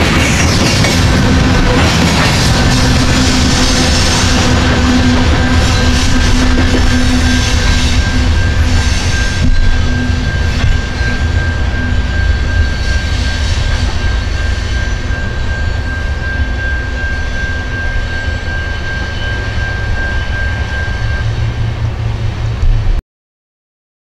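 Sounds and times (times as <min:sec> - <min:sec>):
freight train rumbling past: 0:00.0 - 0:23.0
high-pitched wheel squeal: 0:01.5 - 0:22.6.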